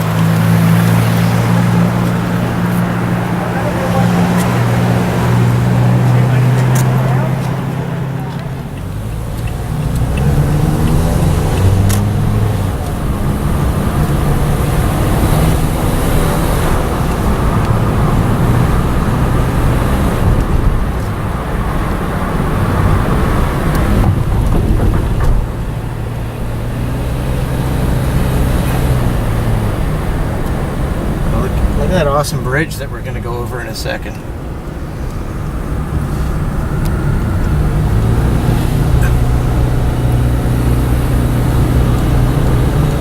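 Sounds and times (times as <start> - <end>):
car engine hum: 0.0 - 43.0
tyre and road noise: 0.0 - 43.0.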